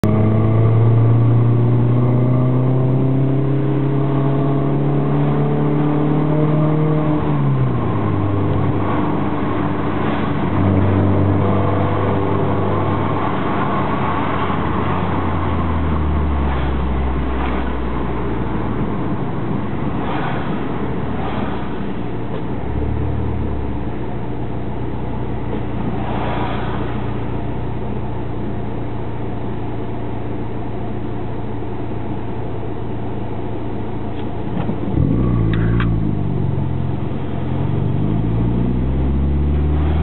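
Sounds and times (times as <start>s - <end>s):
car engine revving: 0.0s - 28.4s, 34.5s - 40.0s.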